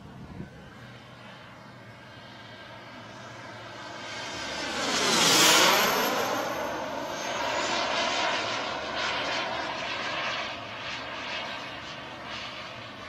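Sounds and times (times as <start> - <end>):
model jet turbine engine whine: 0.0 - 13.0.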